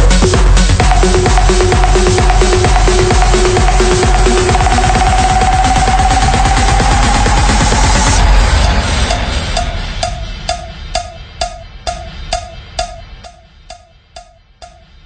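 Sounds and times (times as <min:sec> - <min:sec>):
low rumble: 0:00.0 - 0:14.8
ticking percussion beat: 0:00.0 - 0:15.0.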